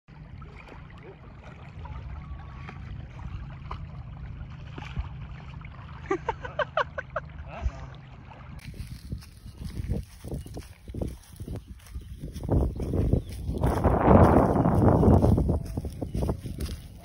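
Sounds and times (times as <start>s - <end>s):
small waves lapping on shore: 0.1s - 14.0s
wind rumble on microphone: 1.4s - 5.7s, 7.5s - 17.0s.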